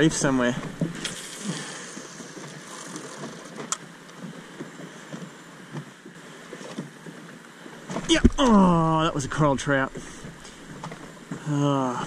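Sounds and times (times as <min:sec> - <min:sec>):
water around a boat: 0:00.0 - 0:12.0
wind: 0:00.0 - 0:12.0.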